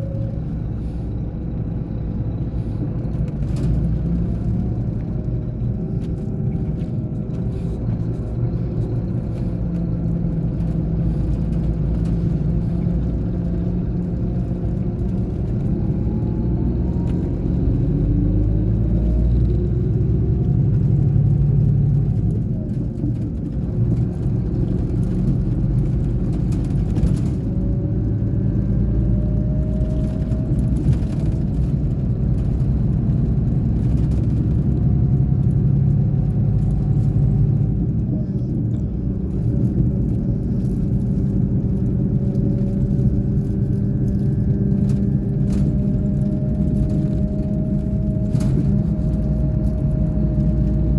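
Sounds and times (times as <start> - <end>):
bus engine droning: 0.0 - 50.9.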